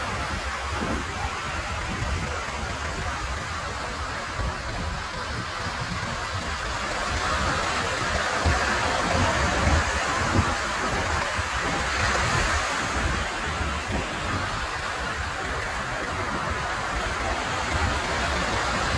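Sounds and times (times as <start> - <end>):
waves washing up beach: 0.0 - 18.9.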